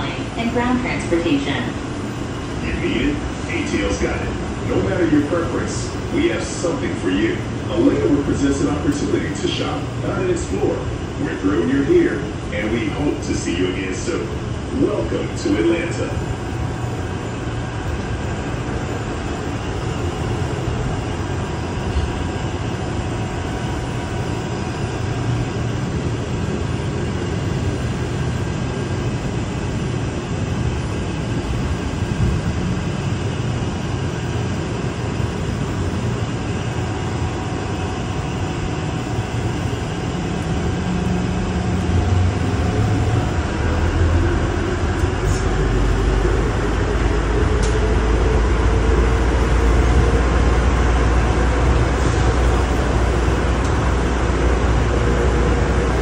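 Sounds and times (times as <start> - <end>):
faint whine tones: 0.0 - 56.0
train car rumble: 0.0 - 56.0.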